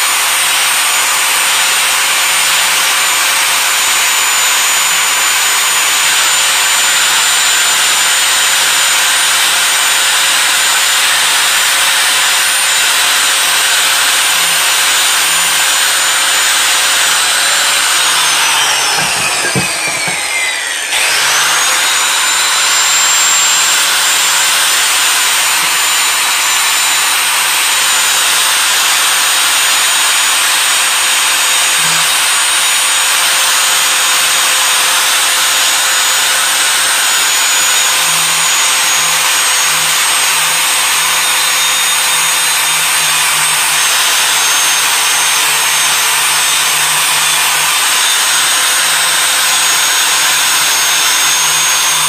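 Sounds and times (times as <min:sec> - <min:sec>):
angle grinder grinding metal: 0:00.0 - 0:52.0.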